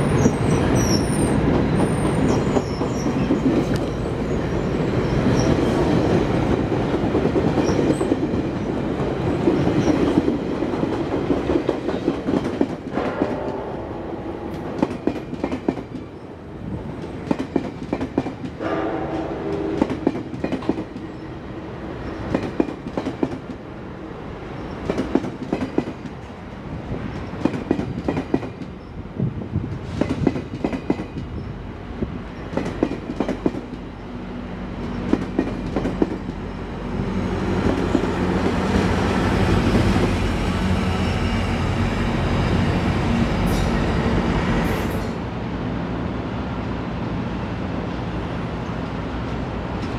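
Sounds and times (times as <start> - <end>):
train rumbling past: 0.0 - 49.9.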